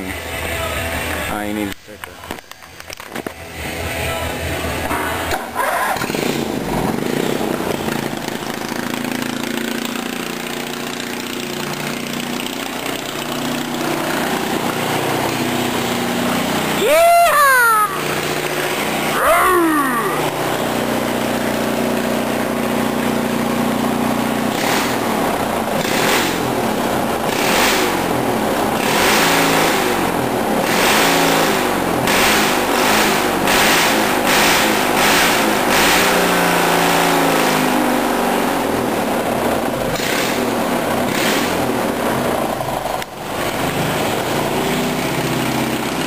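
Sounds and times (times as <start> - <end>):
loud mower engine revving: 3.6 - 46.0.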